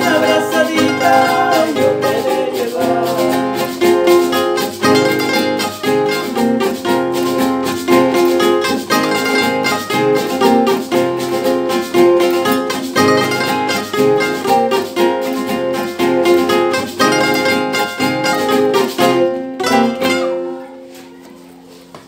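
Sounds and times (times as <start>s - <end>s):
acoustic guitars playing folk tune: 0.0s - 22.0s.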